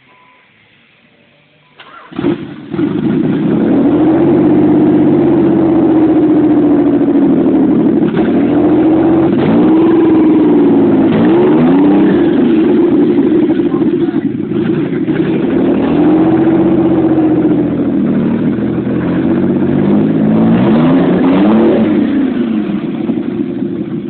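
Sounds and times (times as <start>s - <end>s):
car engine cranking and idling: 0.0s - 24.0s
engine revving: 1.8s - 24.0s.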